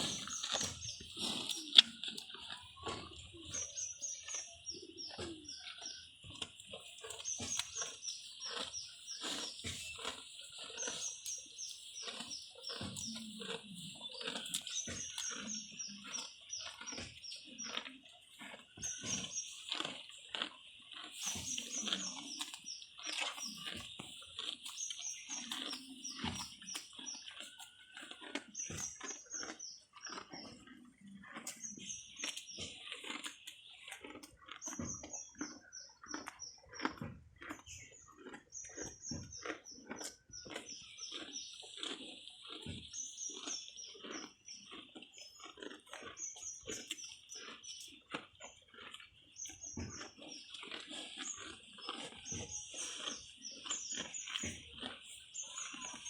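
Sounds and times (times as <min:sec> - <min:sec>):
buffalo chewing grass: 0:00.0 - 0:56.0.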